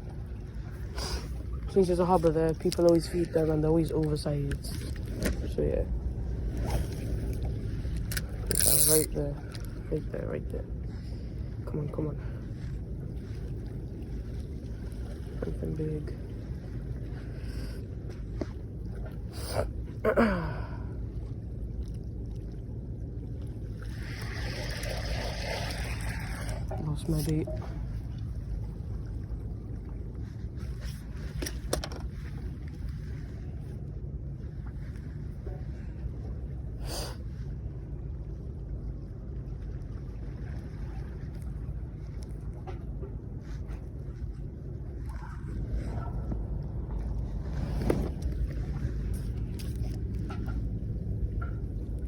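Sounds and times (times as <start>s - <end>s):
sea washing: 0.0s - 52.0s
wind rumble on microphone: 0.0s - 52.0s.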